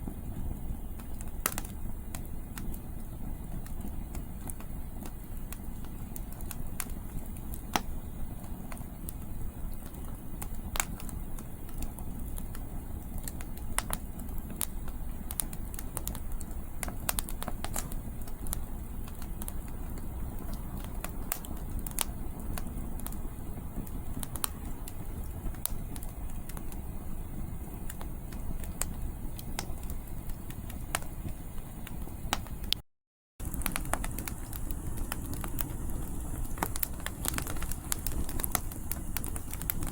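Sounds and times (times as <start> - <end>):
firewood crackling and popping: 0.0 - 32.8, 33.4 - 39.9.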